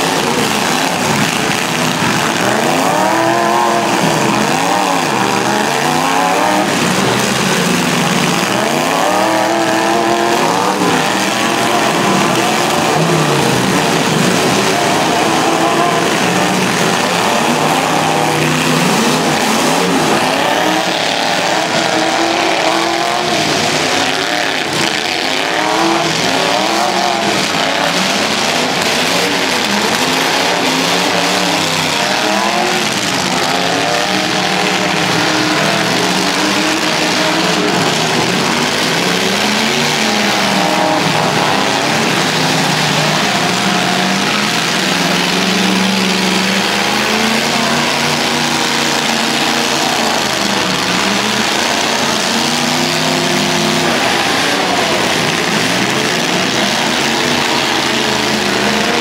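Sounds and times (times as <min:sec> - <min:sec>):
truck engines revving: 0:00.0 - 0:59.0.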